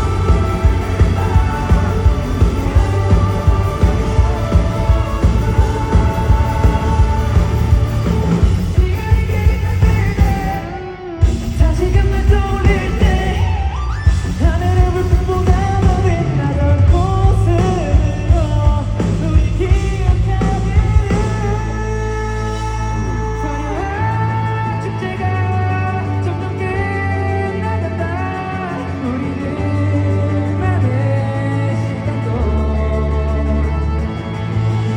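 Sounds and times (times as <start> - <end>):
lead vocal singing: 0.0 - 34.9
rock band playing: 0.0 - 34.9.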